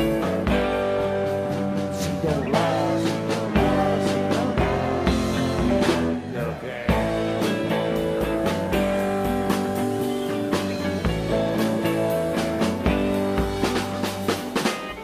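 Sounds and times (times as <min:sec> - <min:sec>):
bass: 0:00.0 - 0:15.0
electric guitar: 0:00.0 - 0:15.0
steady drum beat: 0:00.0 - 0:15.0.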